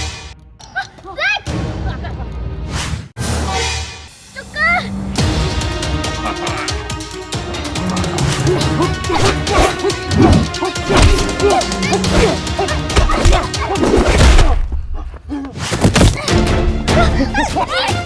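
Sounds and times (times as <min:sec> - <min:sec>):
background music: 0:00.0 - 0:14.9, 0:15.7 - 0:18.0.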